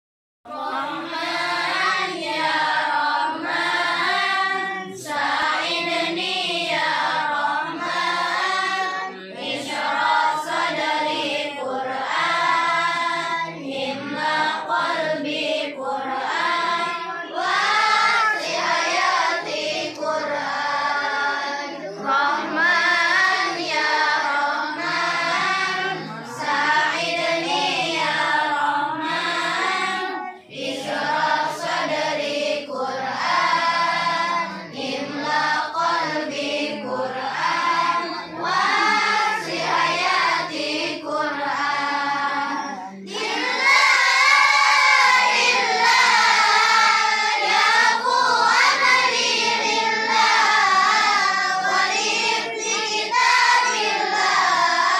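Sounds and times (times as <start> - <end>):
children singing devotional songs: 0.5 - 54.9.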